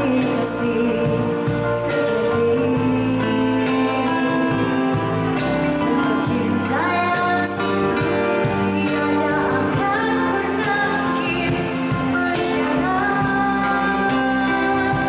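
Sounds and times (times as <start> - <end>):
acoustic guitar: 0.0 - 15.0
electric bass: 0.0 - 15.0
keyboard: 0.0 - 15.0
woman singing: 0.0 - 15.0.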